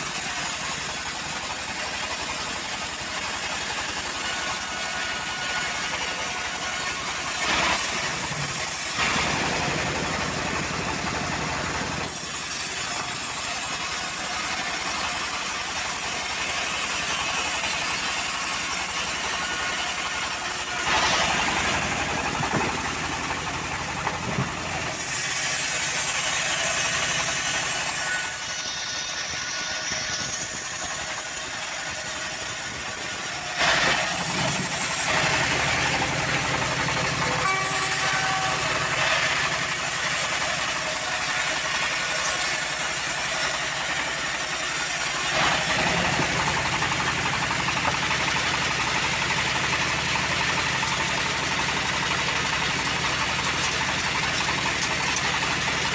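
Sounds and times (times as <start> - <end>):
bandsaw mill cutting log: 0.0 - 55.9.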